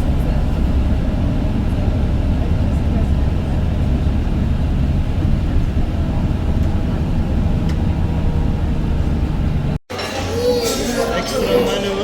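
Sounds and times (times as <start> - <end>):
road vehicle rumble: 0.0 - 9.8.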